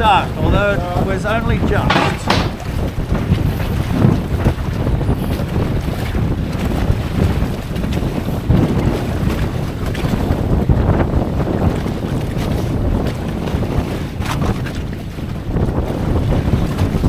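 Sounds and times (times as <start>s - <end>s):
waves washing against boat: 0.0s - 17.0s
wind buffeting microphone: 0.0s - 17.0s.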